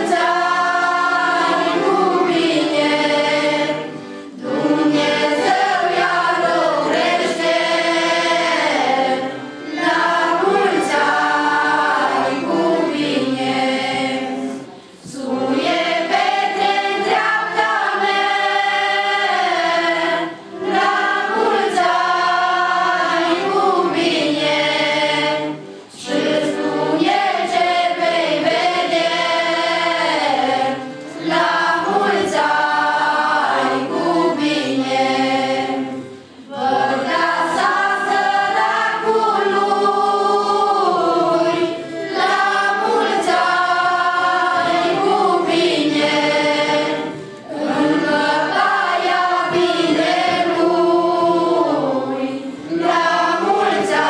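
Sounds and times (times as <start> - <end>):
women and girls singing a carol: 0.0 - 54.0.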